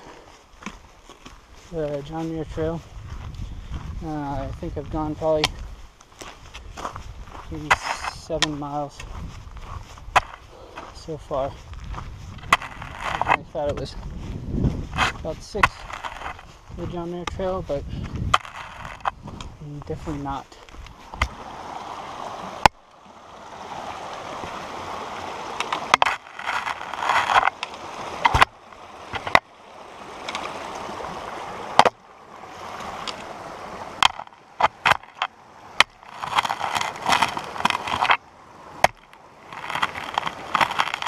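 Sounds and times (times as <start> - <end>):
footsteps crunching on forest floor: 0.0 - 22.9, 23.6 - 41.0
creek running over rocks: 0.0 - 41.0.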